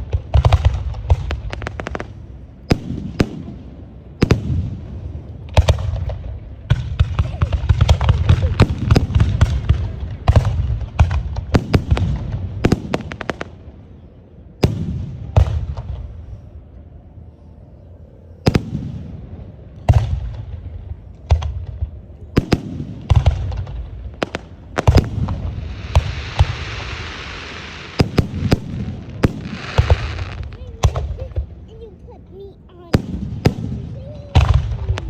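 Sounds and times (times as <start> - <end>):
steady hiss: 0.0 - 35.0.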